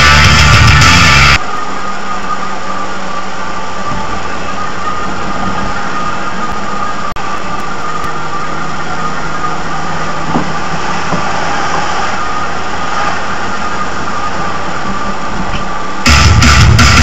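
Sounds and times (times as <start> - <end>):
car engine and road noise: 0.0 - 16.8.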